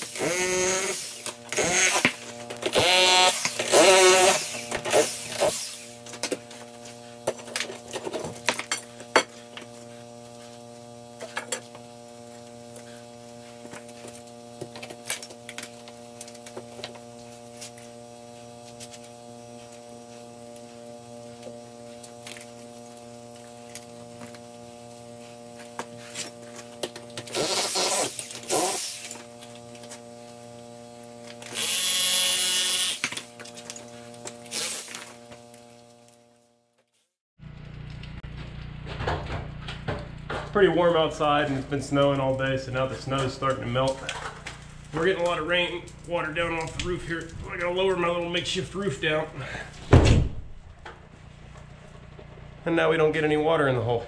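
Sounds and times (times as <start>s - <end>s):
power tool running: 0.0s - 36.6s, 37.4s - 50.0s
machine hum: 0.0s - 36.8s, 37.4s - 54.0s.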